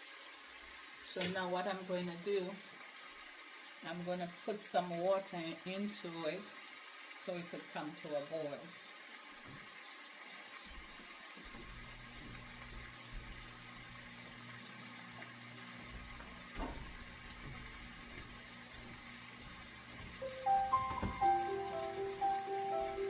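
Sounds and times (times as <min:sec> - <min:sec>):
water running from tap: 0:00.0 - 0:23.0.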